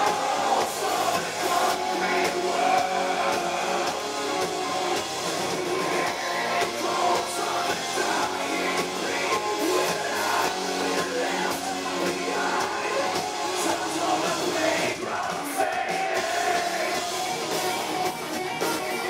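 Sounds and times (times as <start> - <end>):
person singing: 0.0 - 4.7, 5.3 - 17.8
bass guitar: 0.0 - 19.0
distorted electric guitars: 0.0 - 19.0
drums: 0.0 - 19.0.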